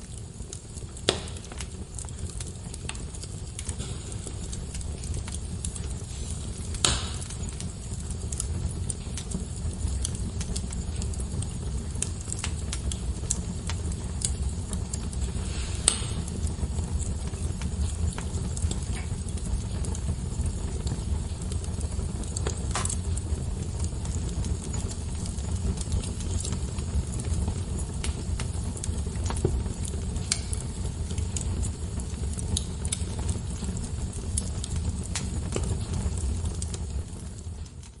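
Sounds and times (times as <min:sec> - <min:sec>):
fire crackles and pops: 0:00.0 - 0:38.0
fire flames rumbling: 0:00.0 - 0:38.0.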